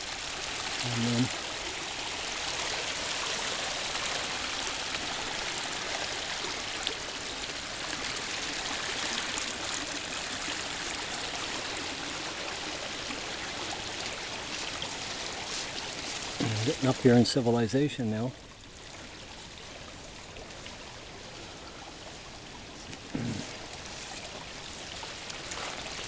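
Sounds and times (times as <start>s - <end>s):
brook rushing and babbling: 0.0s - 26.0s.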